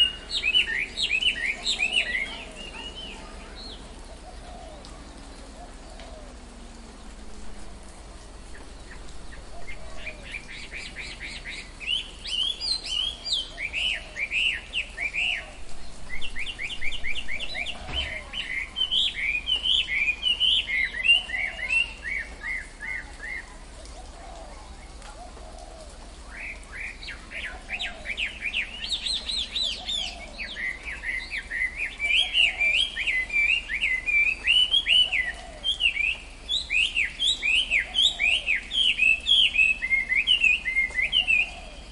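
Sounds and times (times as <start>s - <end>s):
birds chirping: 0.0s - 41.9s
faint lower bird calls: 8.3s - 41.9s.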